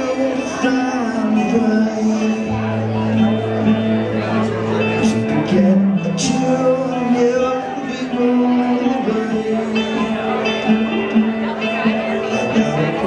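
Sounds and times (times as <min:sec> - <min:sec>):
man singing: 0:00.0 - 0:11.0, 0:11.7 - 0:13.0
guitar strumming and picking: 0:00.0 - 0:13.0.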